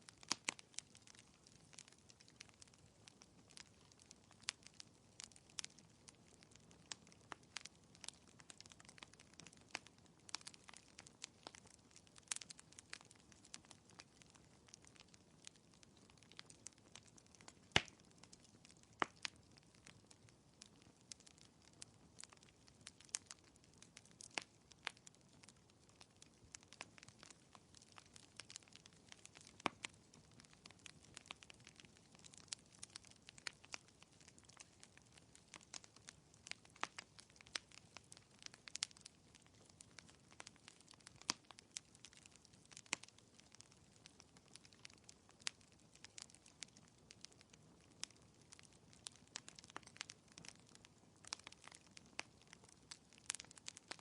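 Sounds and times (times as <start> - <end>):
fireplace crackling: 0.0 - 54.0
low steady hiss: 0.0 - 54.0.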